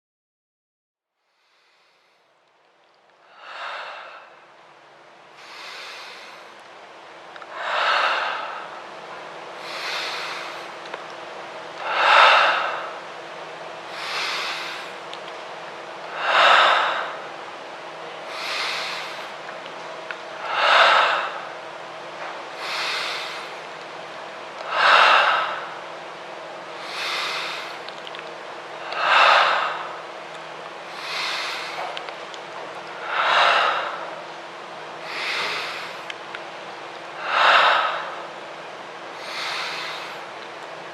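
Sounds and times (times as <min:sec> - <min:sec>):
faint steady hum: 0:01.1 - 0:40.9
heavy rhythmic breathing: 0:03.1 - 0:40.9.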